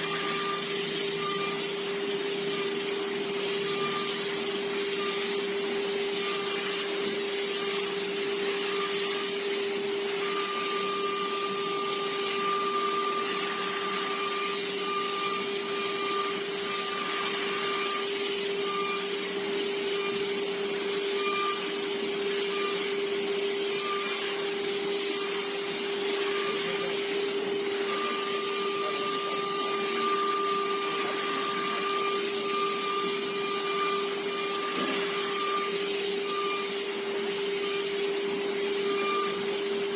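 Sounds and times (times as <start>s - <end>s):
cnc machine motor whine: 0.0s - 39.9s.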